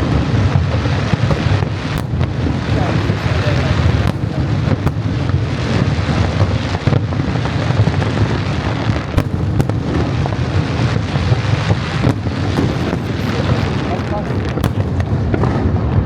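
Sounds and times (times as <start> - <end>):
low rumble of firework bursts: 0.0 - 16.0
sharp firework bangs: 0.0 - 16.0.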